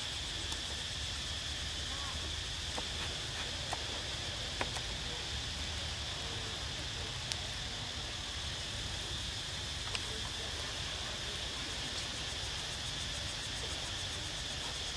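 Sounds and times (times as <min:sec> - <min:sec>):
outdoor background hiss: 0:00.0 - 0:14.9.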